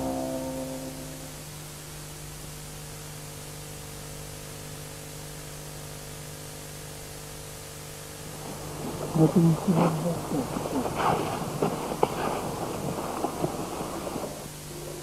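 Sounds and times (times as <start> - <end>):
steady hiss: 0.0 - 3.5, 5.4 - 15.0
low constant hum: 0.0 - 15.0.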